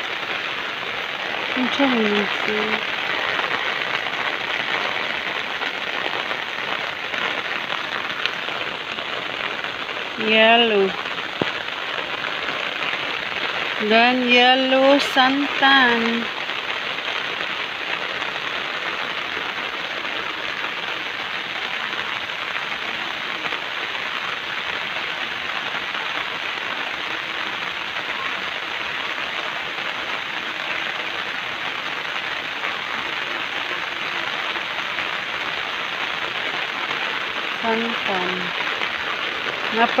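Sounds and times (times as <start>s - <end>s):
rain falling on leaves: 0.0s - 40.0s.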